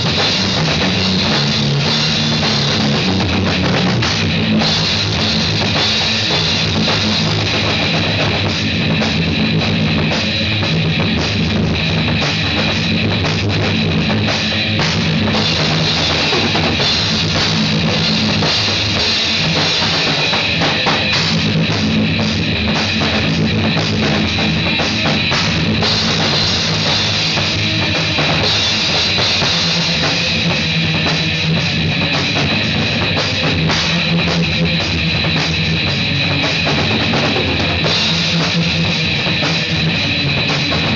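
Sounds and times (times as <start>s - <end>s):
loud rock music: 0.0s - 40.9s.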